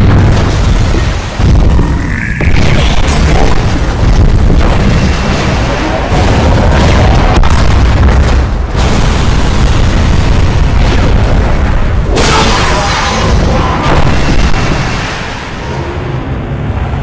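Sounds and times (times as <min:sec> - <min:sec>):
explosions and booms: 0:00.0 - 0:16.8
heavy low rumble: 0:00.0 - 0:17.0.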